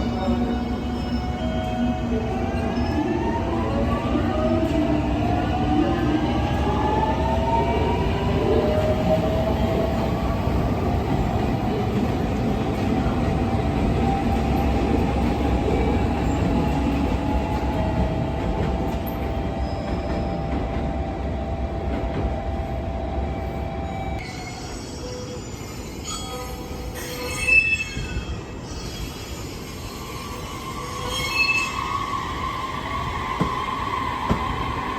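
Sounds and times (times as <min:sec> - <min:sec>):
train rumbling on rails: 0:00.0 - 0:34.9.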